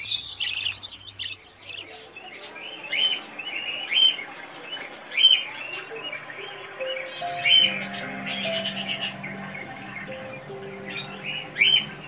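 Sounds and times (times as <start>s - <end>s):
faint background noise: 0.0s - 12.0s
finches chirping: 0.0s - 12.0s.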